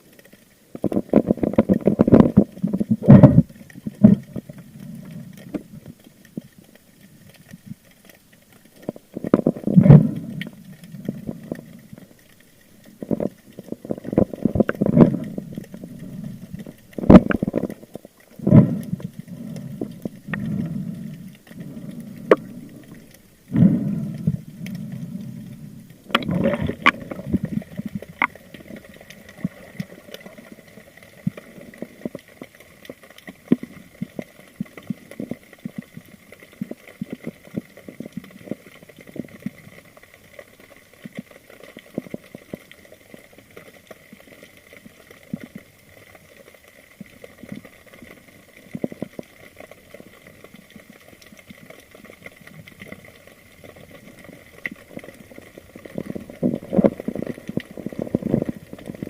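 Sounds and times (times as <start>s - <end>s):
underwater clicks and crackles: 0.0s - 59.0s
underwater rush of bubbles: 0.0s - 59.0s.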